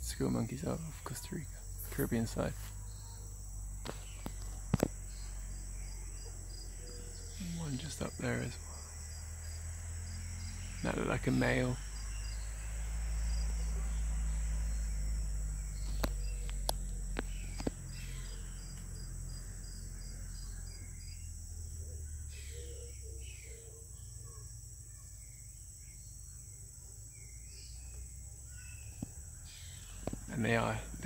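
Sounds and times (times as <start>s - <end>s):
insects droning: 0.0s - 31.0s
bird chirps: 0.1s - 31.0s.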